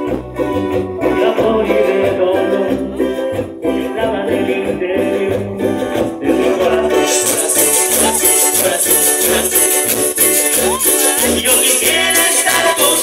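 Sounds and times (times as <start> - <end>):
live dance band playing: 0.0 - 13.0.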